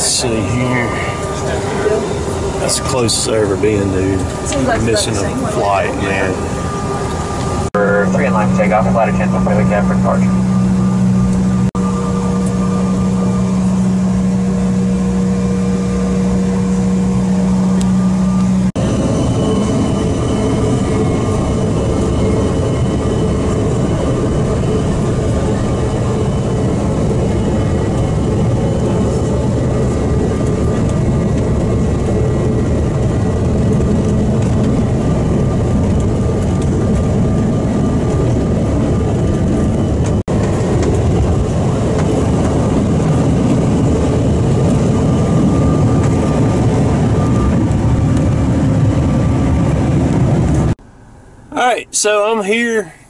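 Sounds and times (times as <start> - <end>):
jet engine and airflow rush in cabin: 0.0 - 53.0.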